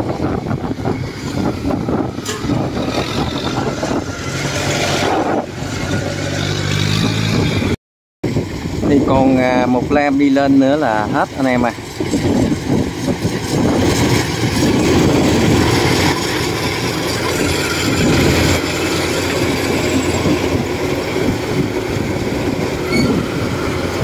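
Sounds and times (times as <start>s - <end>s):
combine harvester running: 0.0s - 7.6s, 8.3s - 24.0s.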